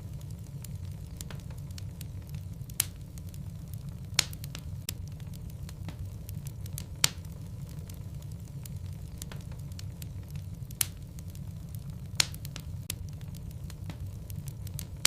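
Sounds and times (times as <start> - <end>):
fire crackling and popping: 0.0 - 15.0
low rumble of flame: 0.0 - 15.0.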